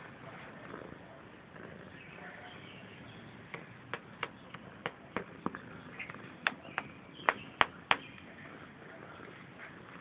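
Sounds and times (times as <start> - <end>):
faint steady background noise: 0.0 - 10.0.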